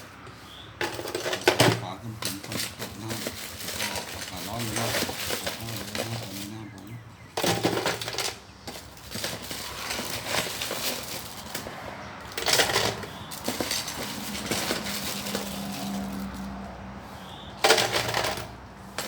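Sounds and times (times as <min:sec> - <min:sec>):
ice cubes clattering into blender: 0:00.8 - 0:11.7, 0:12.3 - 0:16.6, 0:17.6 - 0:19.0.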